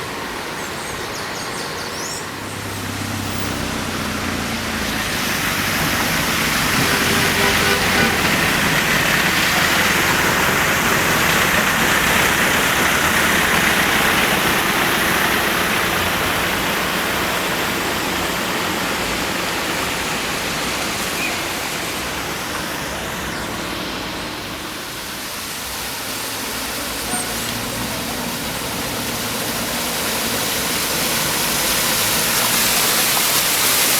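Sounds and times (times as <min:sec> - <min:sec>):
tyres rushing through floodwater: 0:00.0 - 0:33.9.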